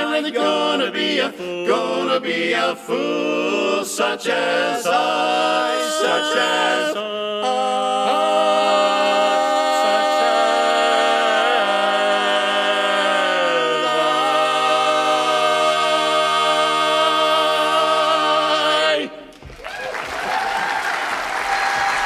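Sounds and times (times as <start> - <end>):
male quartet singing a cappella: 0.0 - 19.3.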